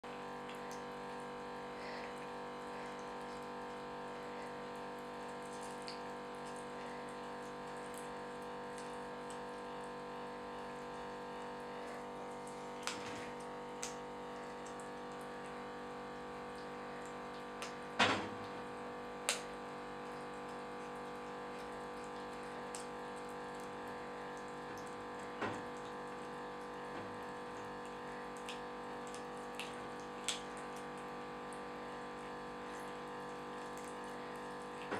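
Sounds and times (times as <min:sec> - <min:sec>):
steady background hum: 0:00.1 - 0:34.9.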